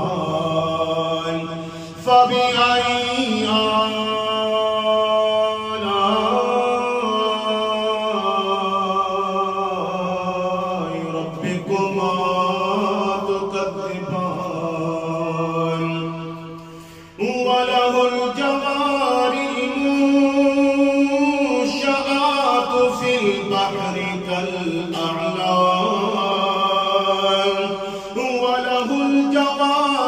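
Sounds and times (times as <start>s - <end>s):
man reciting in melodic chant: 0.0s - 30.0s.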